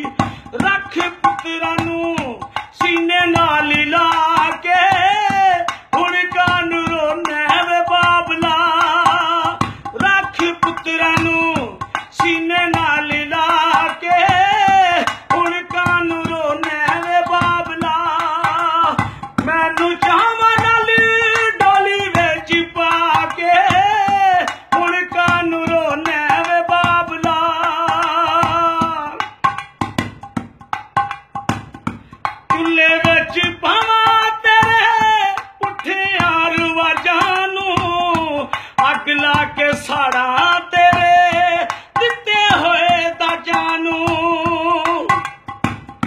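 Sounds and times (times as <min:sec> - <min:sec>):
person singing with vibrato: 0:00.0 - 0:29.4, 0:32.4 - 0:45.3
hand drum beat: 0:00.0 - 0:46.0.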